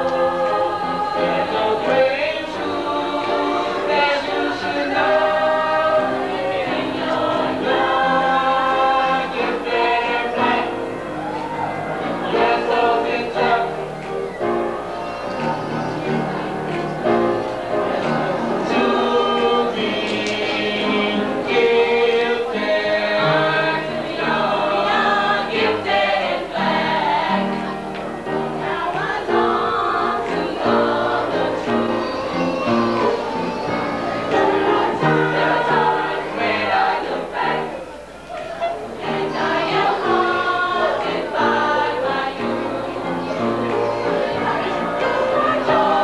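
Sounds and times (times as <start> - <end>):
choir singing gospel song: 0.0 - 46.0.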